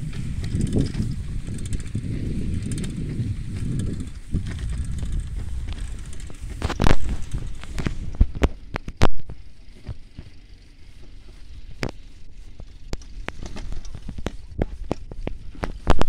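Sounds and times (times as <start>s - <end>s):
bicycle rattling clicks: 0.0s - 16.0s
loud bicycle bumps: 0.0s - 16.0s
low rumble: 0.0s - 16.0s.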